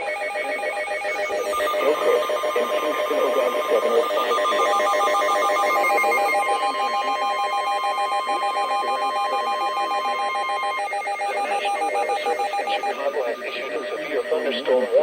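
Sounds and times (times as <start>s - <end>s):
pulsing trilling electronic tone: 0.0s - 15.0s
shrill single alarm tone: 0.0s - 15.0s.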